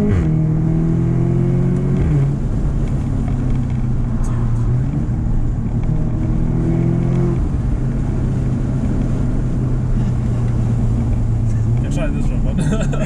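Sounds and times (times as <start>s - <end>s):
car engine drone inside cabin: 0.0s - 13.0s.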